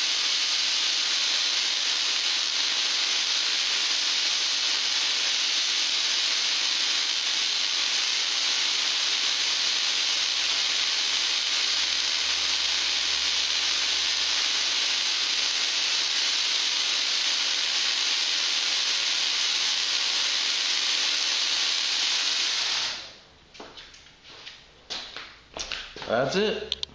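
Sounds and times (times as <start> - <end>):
tesla coil spark hiss: 0.0 - 23.2.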